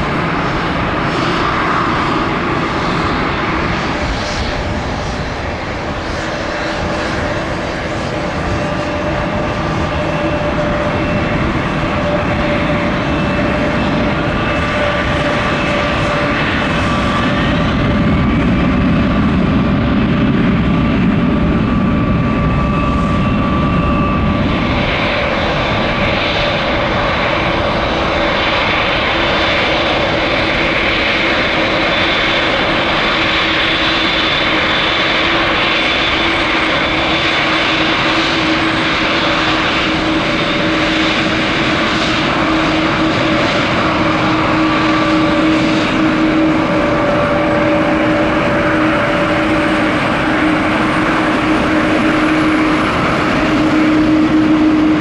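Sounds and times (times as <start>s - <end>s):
jet engine whining tones: 0.0s - 55.0s
jet engines roaring: 0.0s - 55.0s.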